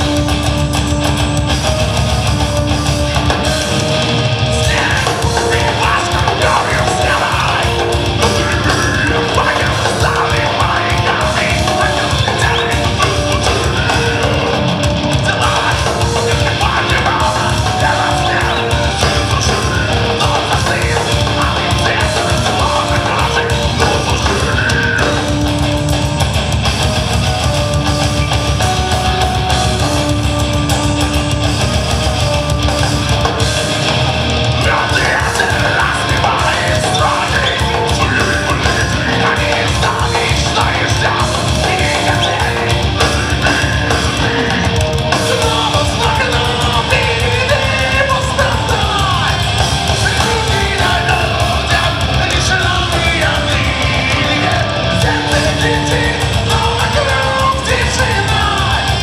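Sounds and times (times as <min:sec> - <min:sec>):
bass guitar: 0:00.0 - 0:59.0
distorted guitars: 0:00.0 - 0:59.0
fast drumming: 0:00.0 - 0:59.0
keyboard notes: 0:00.0 - 0:59.0.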